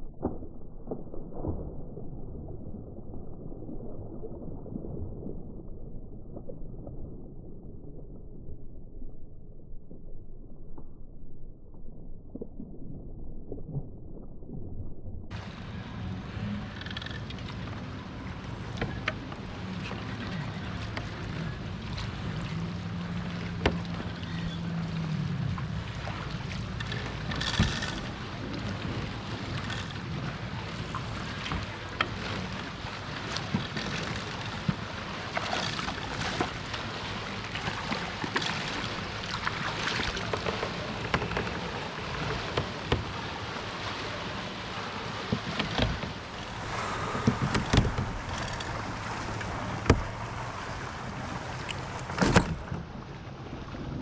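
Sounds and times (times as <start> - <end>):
water noise: 0.0 - 54.0.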